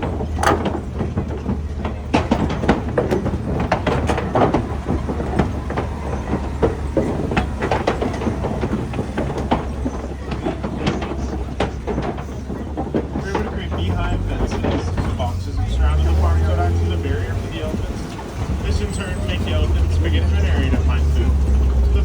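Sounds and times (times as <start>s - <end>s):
truck engine hum: 0.0s - 22.0s
vehicle rattling and knocking: 0.0s - 22.0s.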